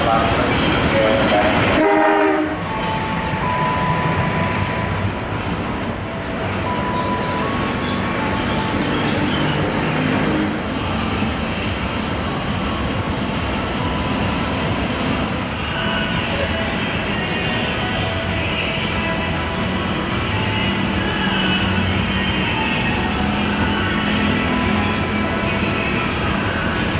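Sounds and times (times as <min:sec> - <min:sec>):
train engine and wheels rumbling: 0:00.0 - 0:26.9.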